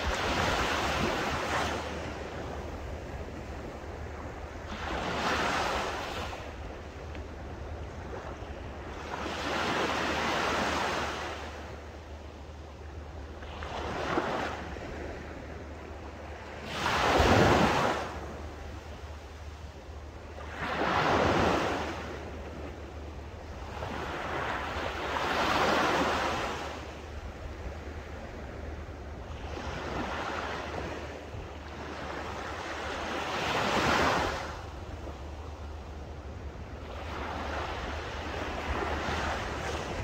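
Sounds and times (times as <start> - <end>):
sea waves washing on beach: 0.0 - 11.9, 12.9 - 40.0.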